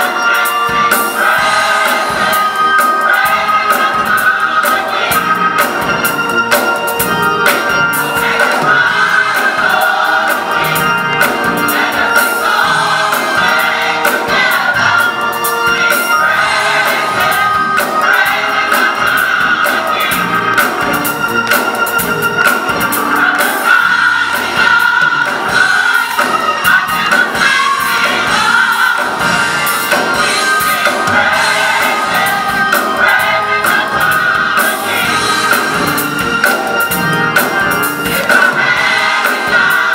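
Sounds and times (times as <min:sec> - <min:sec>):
gospel choir singing: 0:00.0 - 0:39.9
instrumental accompaniment: 0:00.0 - 0:39.9
people clapping in rhythm: 0:07.5 - 0:39.9.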